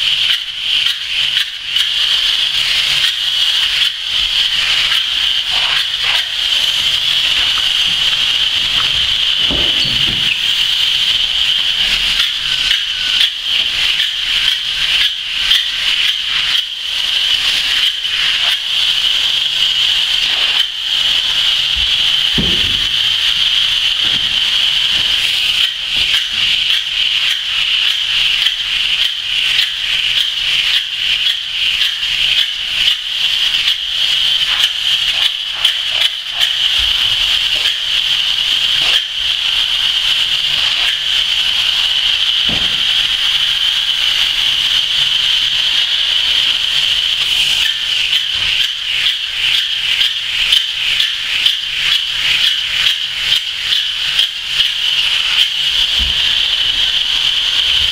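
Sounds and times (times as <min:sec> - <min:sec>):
spray foam gun hissing: 0:00.0 - 0:57.9.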